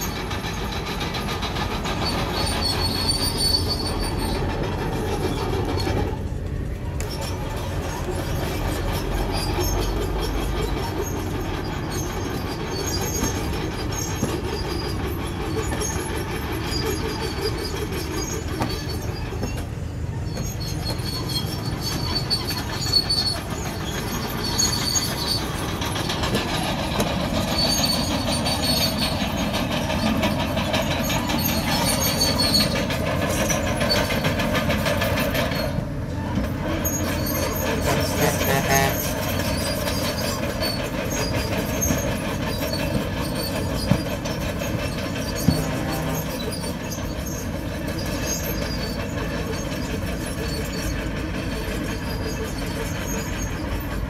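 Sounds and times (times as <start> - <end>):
bulldozer diesel engine: 0.0 - 54.0
high squeals from tracks: 0.0 - 54.0
steel tracks clanking: 0.0 - 54.0.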